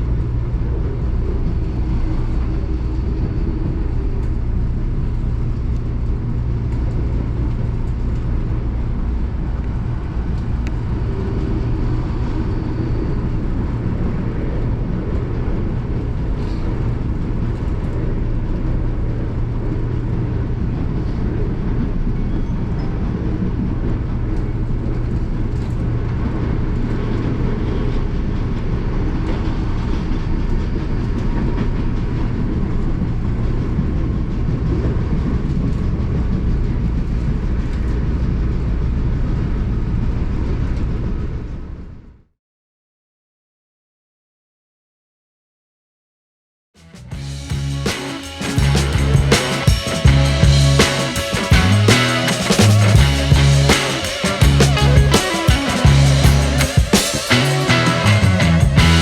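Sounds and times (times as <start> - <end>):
train rumbling on track: 0.0 - 42.2, 47.0 - 59.0.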